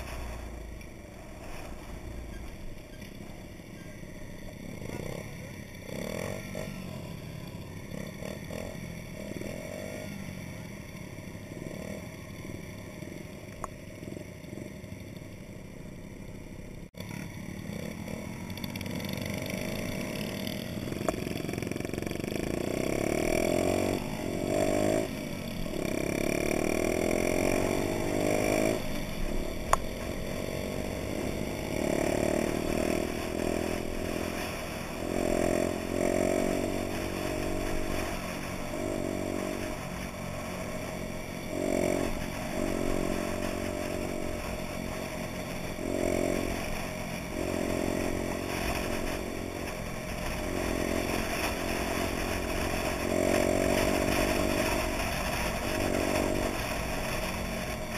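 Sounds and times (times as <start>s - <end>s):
moped engine revving: 0.0s - 57.9s.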